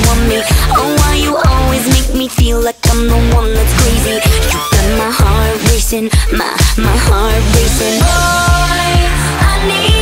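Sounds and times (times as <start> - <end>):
electropop dance music: 0.0 - 10.0.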